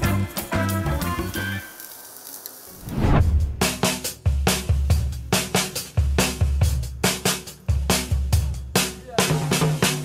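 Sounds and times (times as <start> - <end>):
music with drum beat: 0.0 - 1.4, 3.2 - 10.0.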